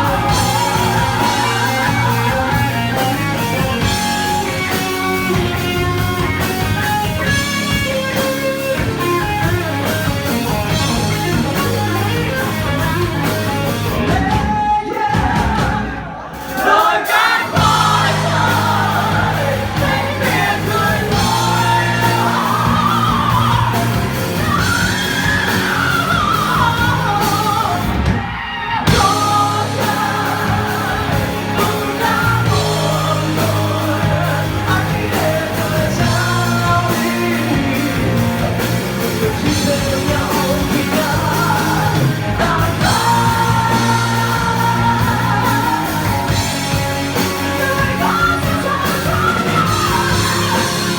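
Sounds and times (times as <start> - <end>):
sung and yelled vocals: 0.0 - 8.2, 12.2 - 50.9
rock band playing: 0.0 - 50.9.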